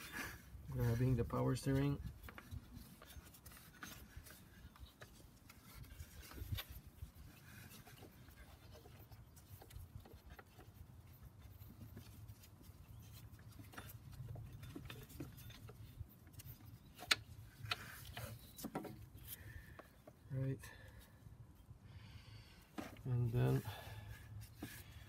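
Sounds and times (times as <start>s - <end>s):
rubber belt rubbing: 0.0s - 20.2s.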